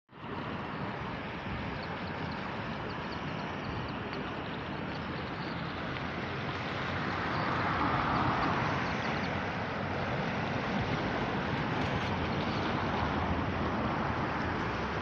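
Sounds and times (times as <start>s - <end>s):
river rushing: 0.2s - 15.0s.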